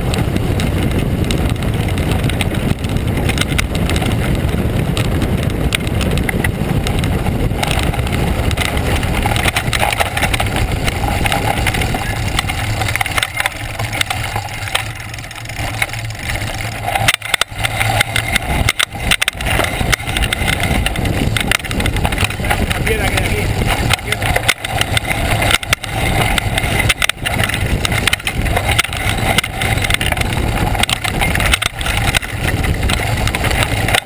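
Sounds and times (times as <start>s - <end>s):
bike clattering: 0.0s - 34.0s
tyres crunching over stones: 0.0s - 34.0s
wind rush on microphone: 0.0s - 34.0s.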